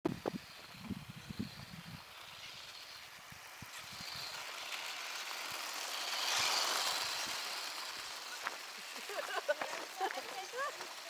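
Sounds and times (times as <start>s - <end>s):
toy truck motor whirring on snow: 0.1s - 11.0s.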